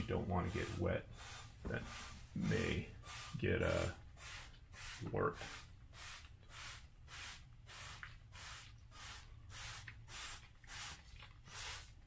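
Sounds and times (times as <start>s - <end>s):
spray bottle hissing sprays: 0.0s - 12.0s.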